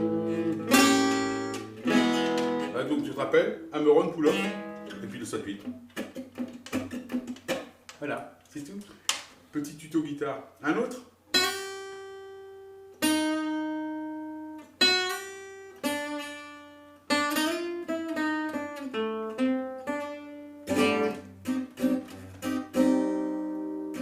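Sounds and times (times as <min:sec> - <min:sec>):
solo guitar playing: 0:00.0 - 0:07.9, 0:11.3 - 0:24.0.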